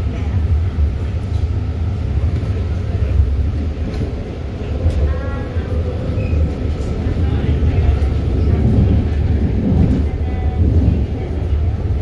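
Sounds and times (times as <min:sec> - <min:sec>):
train car rumbling: 0:00.0 - 0:12.0.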